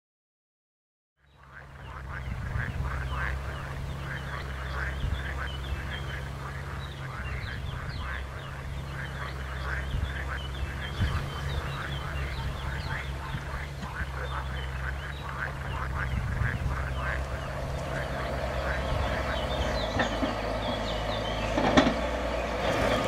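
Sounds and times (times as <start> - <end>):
chorus of animal calls: 1.2 - 23.0
steady low hum: 1.2 - 23.0.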